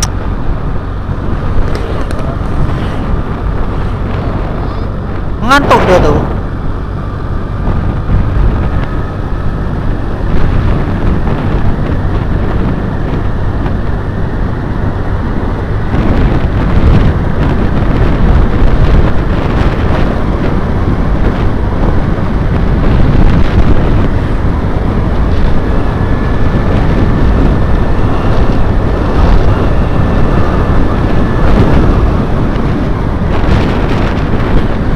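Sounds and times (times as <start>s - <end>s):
vehicle rumbling along road: 0.0s - 34.9s
wind buffeting microphone: 0.0s - 34.9s.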